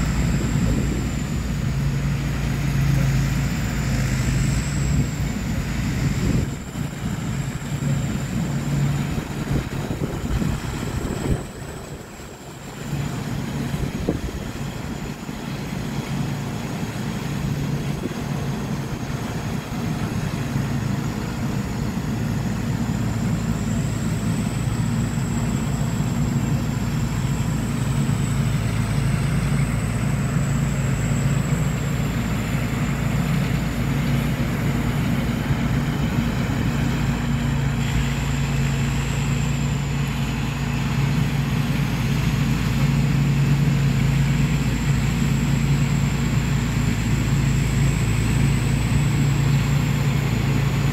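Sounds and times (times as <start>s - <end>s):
combine harvester engine humming: 0.0s - 50.9s.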